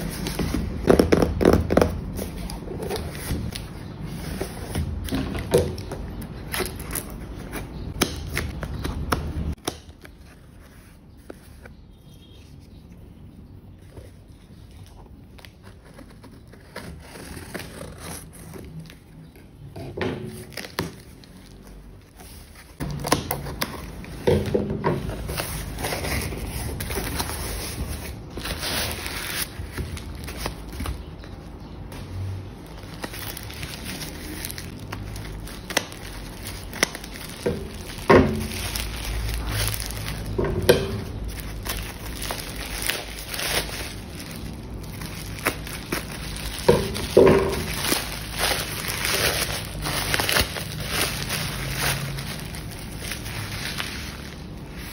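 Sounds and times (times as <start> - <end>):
bubble wrap crinkling: 0.0 - 12.7, 13.8 - 54.9.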